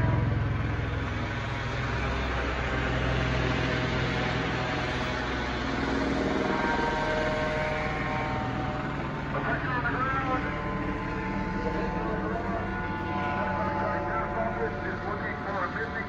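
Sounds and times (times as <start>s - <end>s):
helicopter rotor thrumming: 0.0s - 16.0s.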